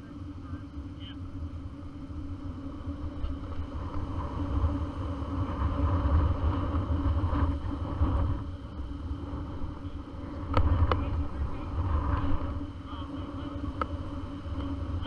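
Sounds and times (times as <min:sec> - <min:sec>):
dirt bike engine droning: 0:00.0 - 0:15.0.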